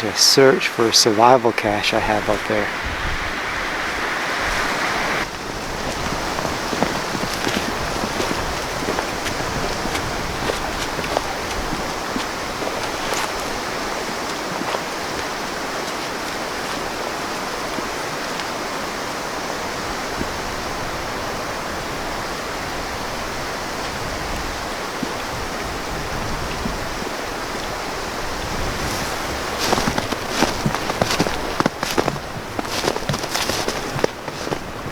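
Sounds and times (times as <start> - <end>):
rain and sleet hissing: 0.0 - 34.9.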